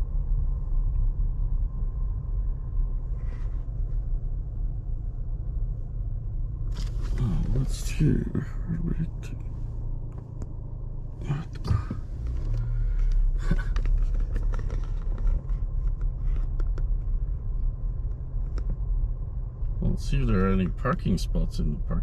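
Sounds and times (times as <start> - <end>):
car engine rumble: 0.0 - 22.0
road noise inside car: 0.0 - 22.0.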